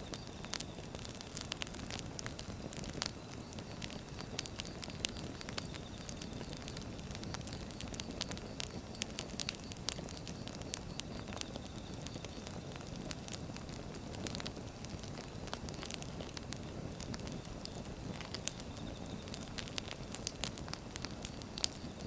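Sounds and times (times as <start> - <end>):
firewood burning with crackles: 0.0 - 22.0.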